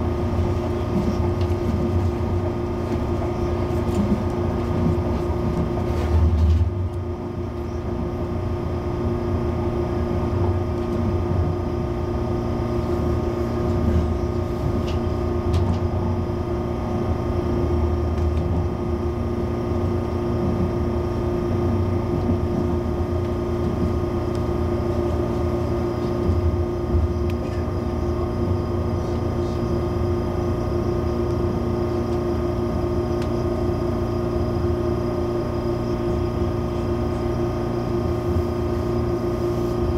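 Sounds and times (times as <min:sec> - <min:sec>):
low train rumble: 0:00.0 - 0:39.9
train hum inside car: 0:00.0 - 0:39.9.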